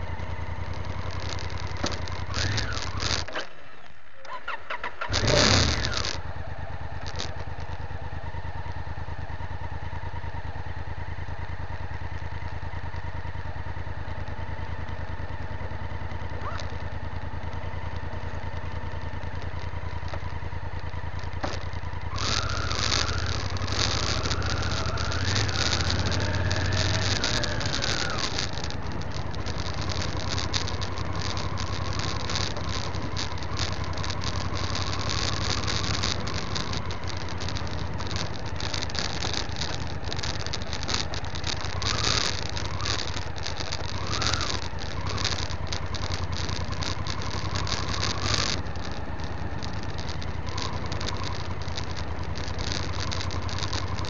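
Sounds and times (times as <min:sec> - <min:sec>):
small rattles and clicks: 0:00.0 - 0:06.2, 0:07.0 - 0:07.9, 0:14.1 - 0:54.0
tyres on gravel: 0:00.0 - 0:09.3, 0:12.0 - 0:54.0
motorcycle engine running: 0:00.0 - 0:54.0.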